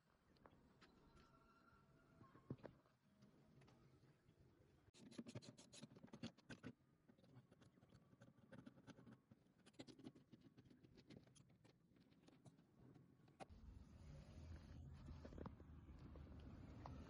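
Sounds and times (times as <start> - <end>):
faint scratching and clicks: 2.2 - 17.0.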